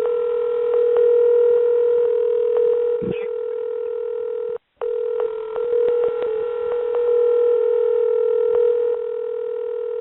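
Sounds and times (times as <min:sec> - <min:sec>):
steady telephone tone: 0:00.0 - 0:10.0.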